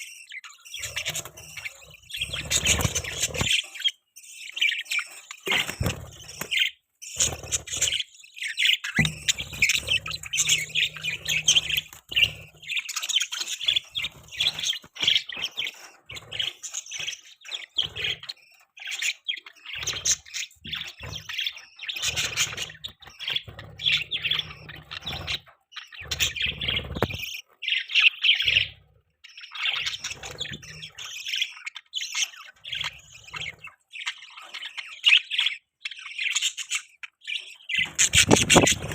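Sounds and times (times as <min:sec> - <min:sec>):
budgies chirping and warbling: 0:00.0 - 0:38.9.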